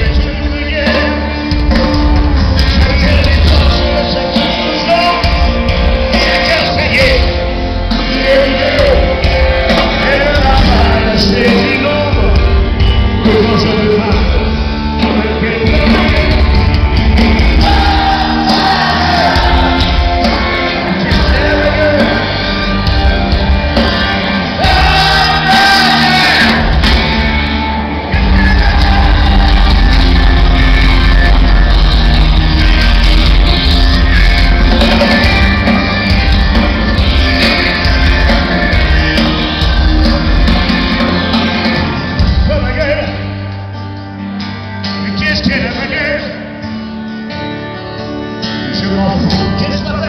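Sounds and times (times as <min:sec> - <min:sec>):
person singing: 0:00.0 - 0:27.1, 0:28.0 - 0:43.2
live rock band playing: 0:00.0 - 0:50.0.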